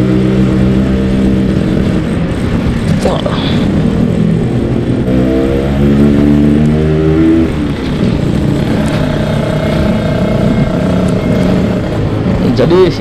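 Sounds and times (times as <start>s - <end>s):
two-stroke motorcycle accelerating: 0.0s - 13.0s.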